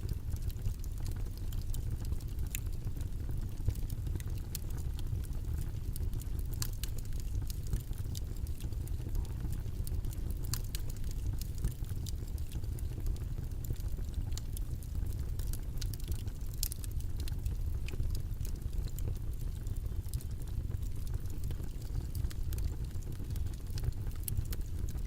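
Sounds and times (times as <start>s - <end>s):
faint crackles and clicks: 0.0s - 25.0s.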